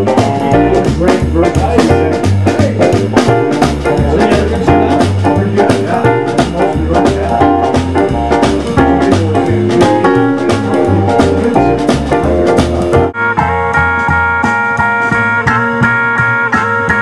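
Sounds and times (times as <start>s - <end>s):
drums beating: 0.0s - 17.0s
electric guitar: 0.0s - 17.0s
keyboard: 0.0s - 17.0s
upright double bass: 0.0s - 17.0s.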